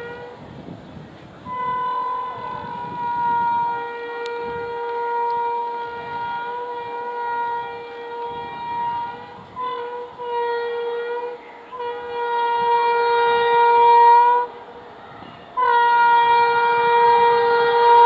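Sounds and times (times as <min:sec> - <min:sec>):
low rumble of oncoming train: 0:00.0 - 0:18.0
train horn blasts: 0:00.0 - 0:18.0.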